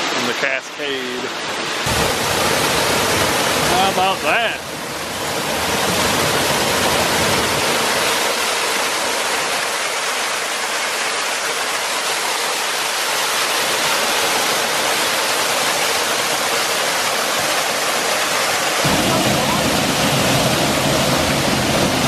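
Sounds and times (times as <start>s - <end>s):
water splashing down a cascade: 0.0s - 22.0s.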